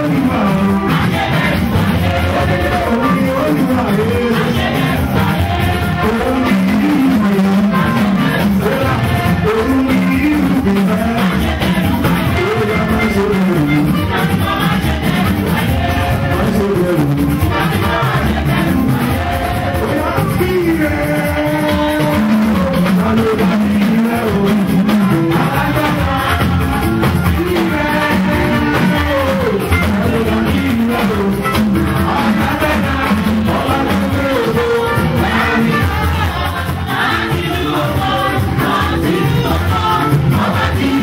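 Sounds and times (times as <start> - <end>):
live band music: 0.0 - 41.0
person singing: 0.0 - 41.0.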